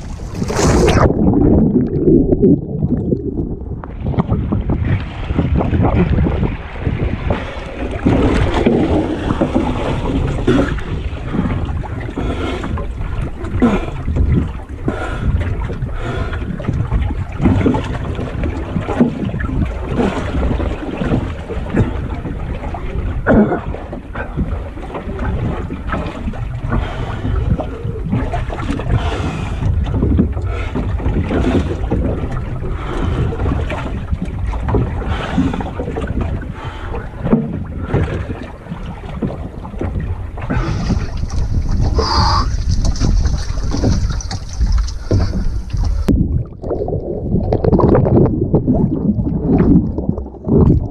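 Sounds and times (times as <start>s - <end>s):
choppy water slapping boat: 0.0s - 50.9s
wind buffeting microphone: 0.0s - 50.9s.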